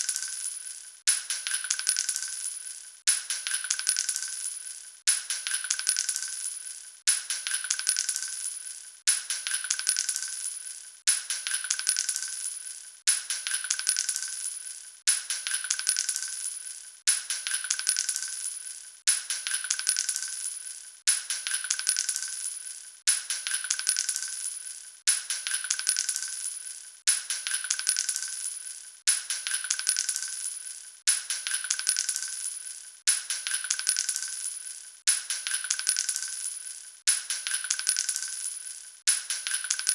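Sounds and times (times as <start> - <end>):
metal shell casings clattering on floor: 0.0 - 39.9.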